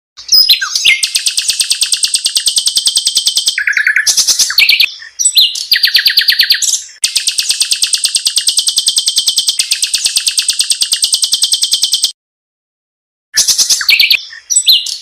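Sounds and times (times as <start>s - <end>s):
bird chirping and trilling: 0.2s - 12.2s, 13.4s - 15.0s.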